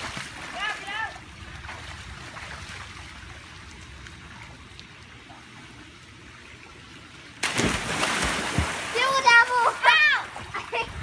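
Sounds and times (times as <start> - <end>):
pool water lapping and trickling: 0.0 - 11.0.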